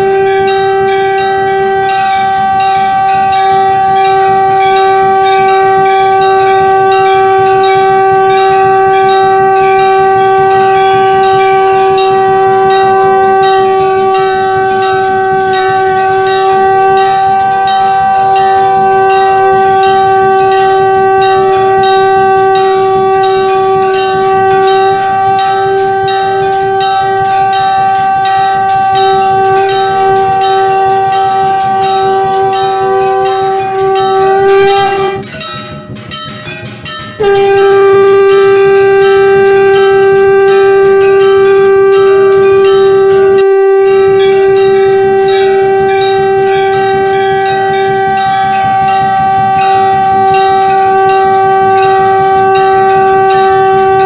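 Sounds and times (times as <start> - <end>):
conch shell blown: 0.0 - 35.5, 37.2 - 54.0.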